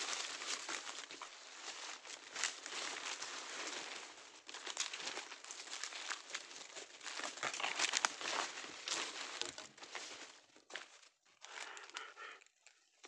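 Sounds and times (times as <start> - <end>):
dry leaves crunching underfoot: 0.0 - 12.1.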